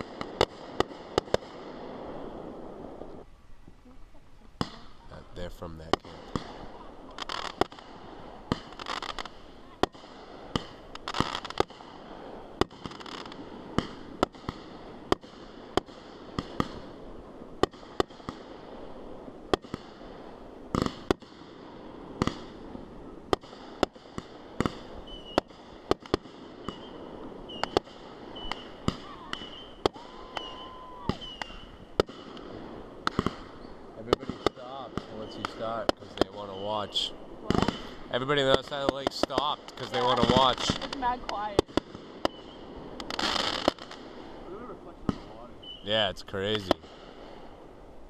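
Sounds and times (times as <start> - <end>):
distant fireworks bangs: 0.0 - 3.2, 4.5 - 47.9.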